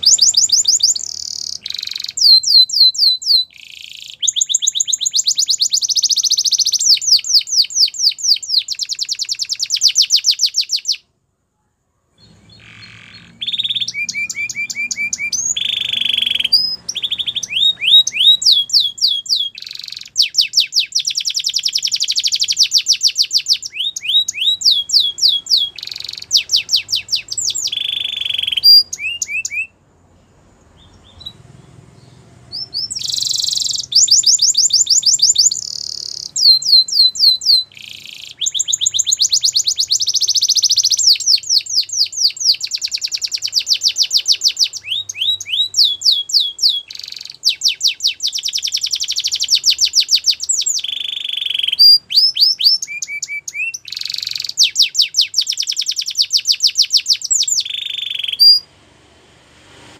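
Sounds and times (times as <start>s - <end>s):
canary singing trills: 0.0s - 11.1s, 12.0s - 58.7s.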